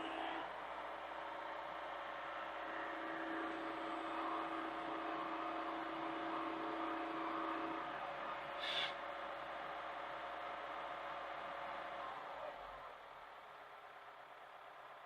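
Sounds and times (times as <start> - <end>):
excavator engine running: 0.0 - 15.0
steady machine whine: 0.0 - 15.0.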